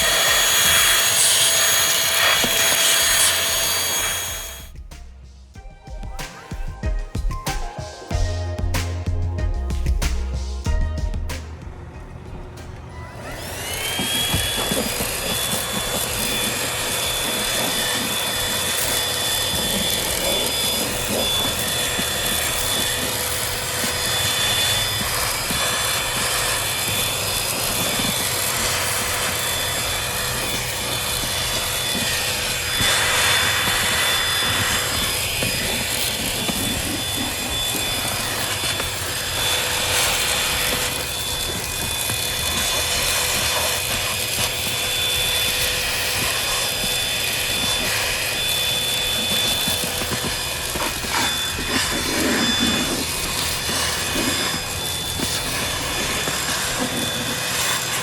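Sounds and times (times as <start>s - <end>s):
vacuum cleaner motor whine: 0.0s - 4.8s, 11.7s - 58.0s.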